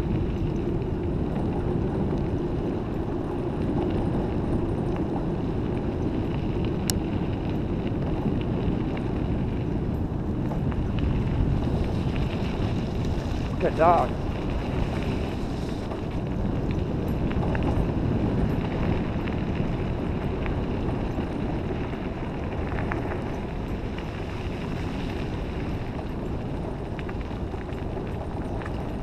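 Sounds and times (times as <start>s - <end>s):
scooter tyres rumbling on gravel: 0.0s - 29.0s
wind on microphone: 0.0s - 29.0s
faint ticks: 0.1s - 29.0s.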